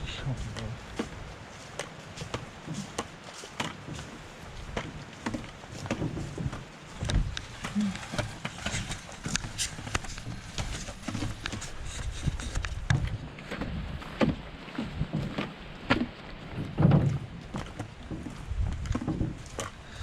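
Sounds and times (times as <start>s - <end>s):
footsteps on a trail: 0.0s - 20.0s.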